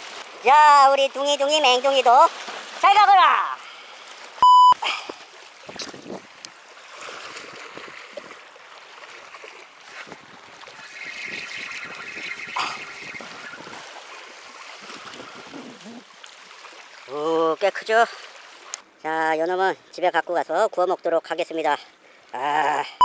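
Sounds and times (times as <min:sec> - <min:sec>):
water lapping among rocks: 0:00.0 - 0:19.0.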